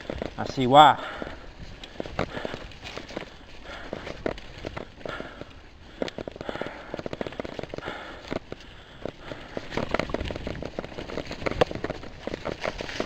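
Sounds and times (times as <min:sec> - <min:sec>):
mountain bike rattling on trail: 0:00.0 - 0:13.0.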